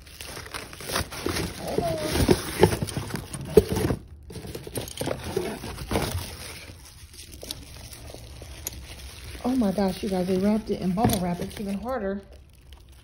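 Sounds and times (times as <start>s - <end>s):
bubble wrap crackling: 0.0s - 13.0s
cardboard rustling: 0.0s - 13.0s.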